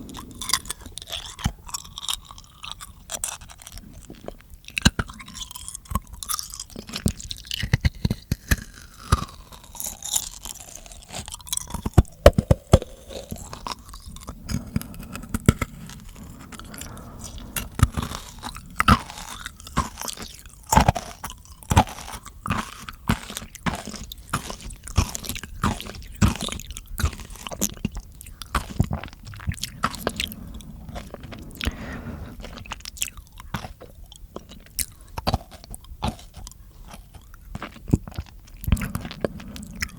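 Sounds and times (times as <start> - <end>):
crunchy chewing: 0.0 - 39.9
wet tongue clicks and smacks: 0.1 - 31.8, 32.5 - 39.9.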